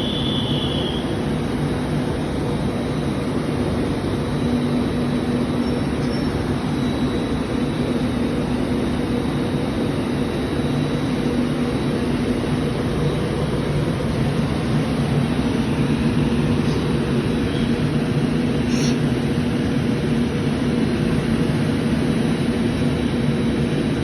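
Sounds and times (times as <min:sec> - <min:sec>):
train running past: 0:00.0 - 0:23.9.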